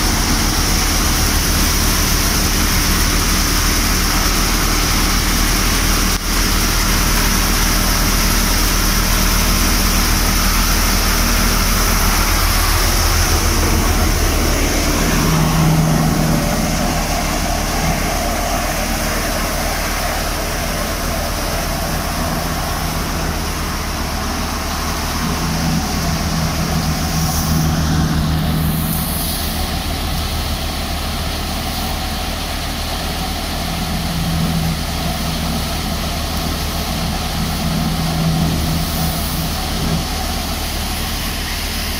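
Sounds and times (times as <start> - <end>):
combine harvester engine drone: 0.0 - 41.9.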